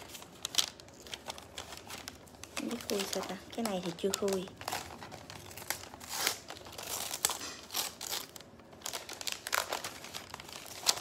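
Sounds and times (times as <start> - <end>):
wrapping paper crinkling and tearing: 0.0 - 11.0.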